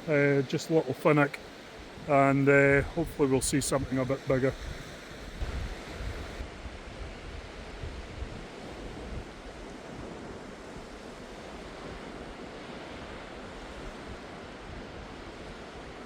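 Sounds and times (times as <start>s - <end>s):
surf washing onto beach: 0.0s - 16.0s
wind rumbling on microphone: 1.7s - 16.0s.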